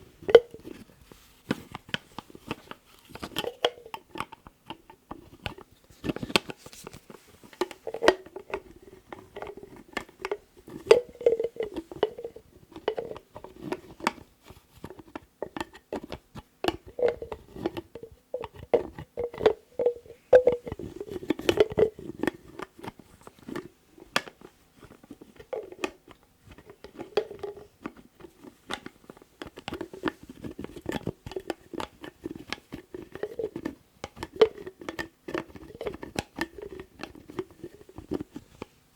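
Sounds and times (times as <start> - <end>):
lids tapped and clicked: 0.2 - 0.9, 1.5 - 38.7.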